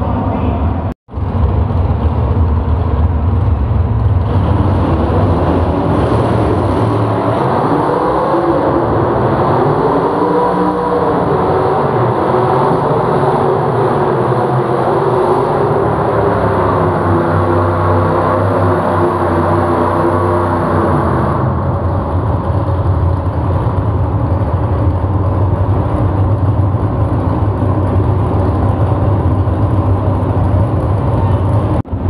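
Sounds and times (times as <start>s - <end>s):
loud engine under load revving: 4.2s - 31.8s.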